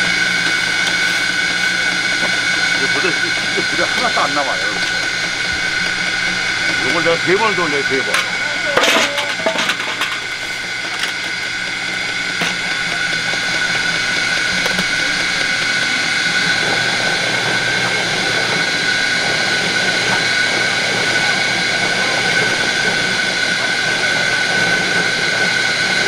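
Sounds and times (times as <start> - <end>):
juicer motor whining: 0.0 - 26.0.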